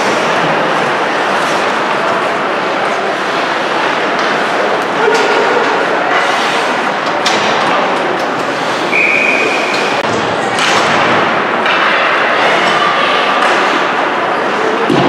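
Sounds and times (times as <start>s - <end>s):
crowd and arena noise: 0.0s - 15.0s
hockey sticks and puck clacking: 0.0s - 15.0s.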